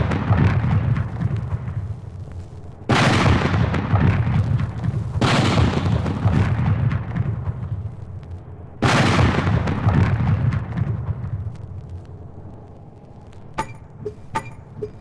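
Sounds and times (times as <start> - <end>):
explosions with low rumble: 0.0 - 15.0.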